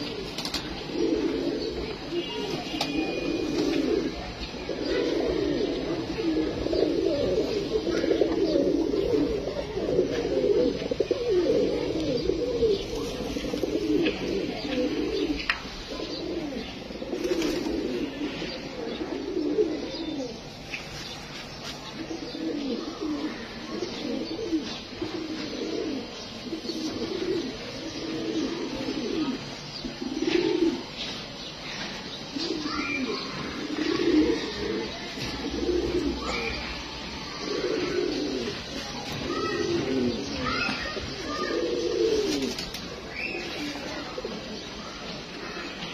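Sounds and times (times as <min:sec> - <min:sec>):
pigeons cooing: 0:00.0 - 0:45.9.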